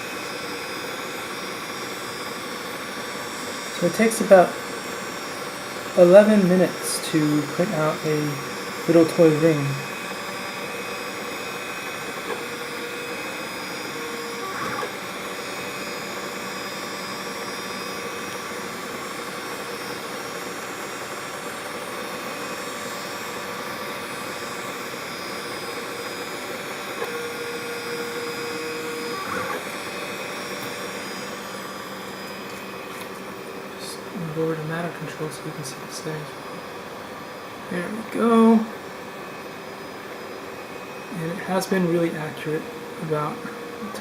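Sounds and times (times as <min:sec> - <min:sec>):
stepper motor tones: 0:00.0 - 0:36.5
printer fans whirring: 0:00.0 - 0:44.0.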